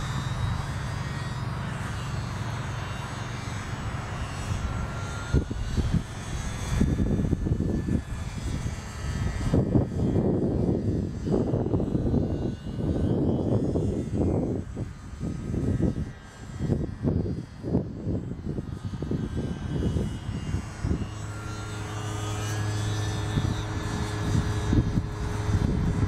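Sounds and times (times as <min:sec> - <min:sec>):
model airplane engine whine: 0:00.0 - 0:26.0.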